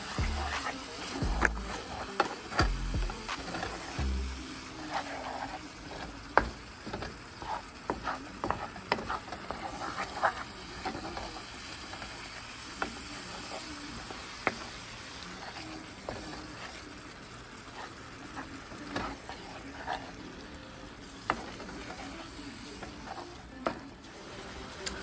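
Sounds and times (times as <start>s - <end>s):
wooden spoon scraping a pan: 0.0s - 20.4s, 21.0s - 25.0s
vegetables sizzling in a skillet: 0.0s - 25.0s.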